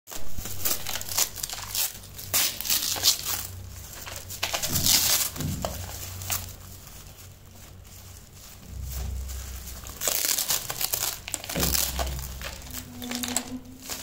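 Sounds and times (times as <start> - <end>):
plastic wrap crinkling: 0.1 - 14.0.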